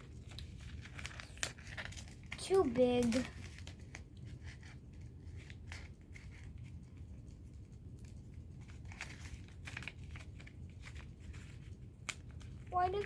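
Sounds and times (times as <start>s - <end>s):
paper and tape crinkling: 0.0s - 13.0s.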